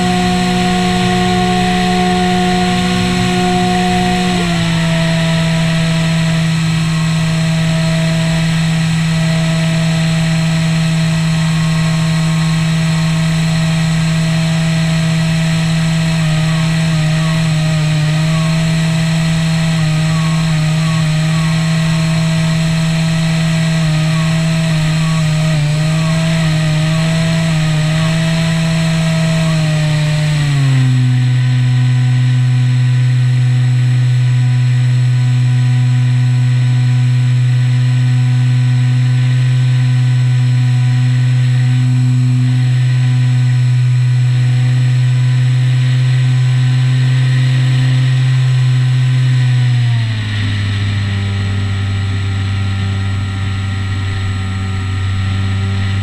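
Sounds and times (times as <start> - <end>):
model plane motor and propeller drone: 0.0 - 56.0.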